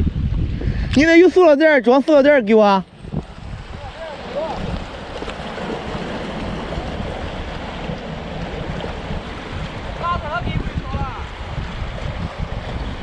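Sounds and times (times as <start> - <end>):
strong wind buffeting microphone: 0.0 - 13.0
waves washing against shore: 0.0 - 13.0.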